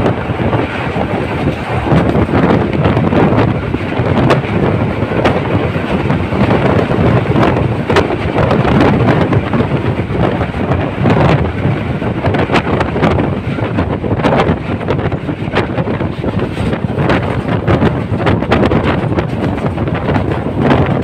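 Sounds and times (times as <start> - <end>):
train rumble and rattle: 0.0 - 21.0
wind buffeting microphone: 0.0 - 21.0.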